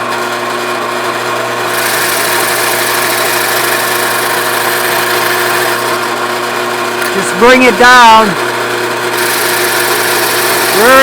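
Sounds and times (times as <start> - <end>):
drill press motor whirring: 0.0 - 11.0.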